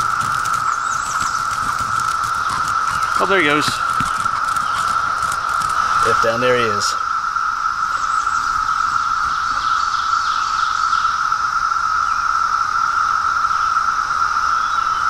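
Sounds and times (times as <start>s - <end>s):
cicada chorus drone: 0.0s - 15.0s.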